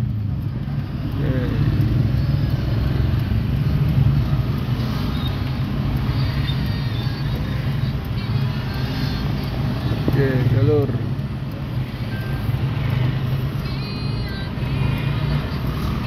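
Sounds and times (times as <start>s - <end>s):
engines idling in traffic: 0.0s - 16.0s
motorcycles moving: 0.0s - 16.0s.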